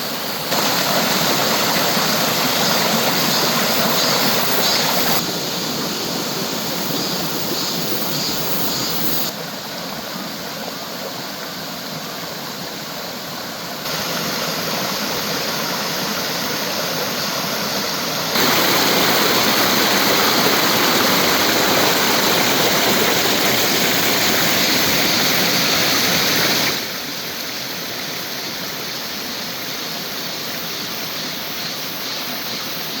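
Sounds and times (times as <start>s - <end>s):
stream rushing over rocks: 0.0s - 31.8s.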